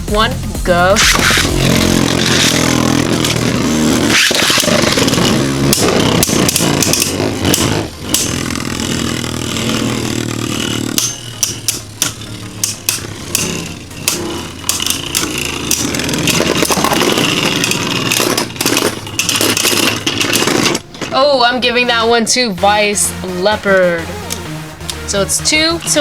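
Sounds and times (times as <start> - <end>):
spinning tops whirring: 0.0 - 26.0
tops clacking and scraping: 0.0 - 26.0.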